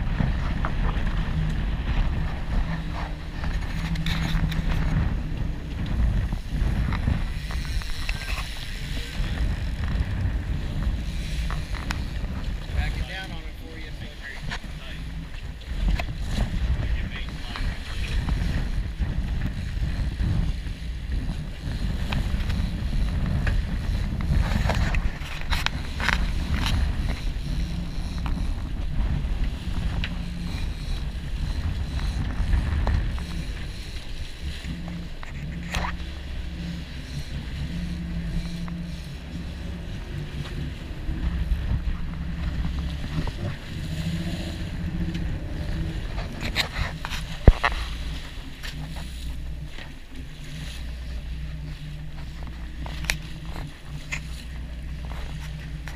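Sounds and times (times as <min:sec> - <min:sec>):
boat engine rumble: 0:00.0 - 0:55.9
rushing water: 0:00.0 - 0:55.9
wind: 0:00.0 - 0:55.9.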